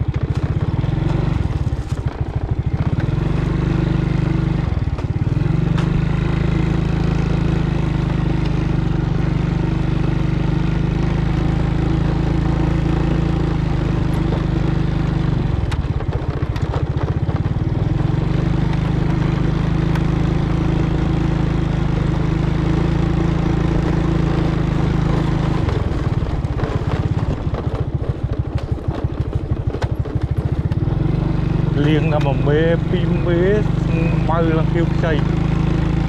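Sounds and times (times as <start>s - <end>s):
small engine running: 0.0s - 36.0s.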